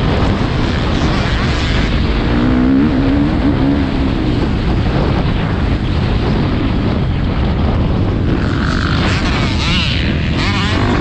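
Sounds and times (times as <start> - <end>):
motocross bike engine: 0.0 - 11.0
wind noise on microphone: 0.0 - 11.0.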